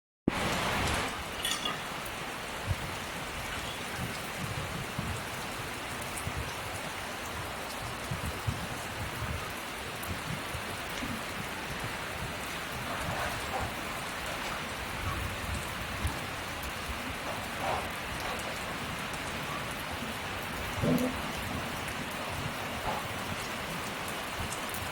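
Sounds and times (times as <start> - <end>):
rain-like hiss: 0.3 - 24.9.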